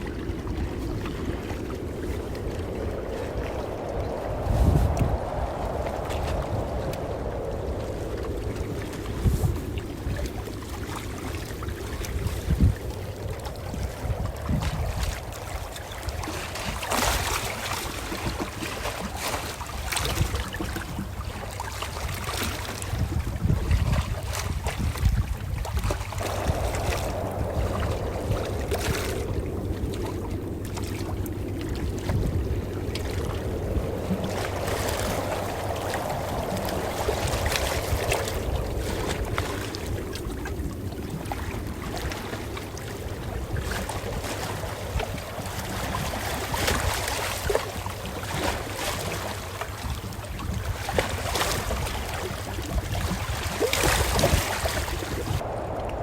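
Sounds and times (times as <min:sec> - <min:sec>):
ocean waves lapping: 0:00.0 - 0:56.0.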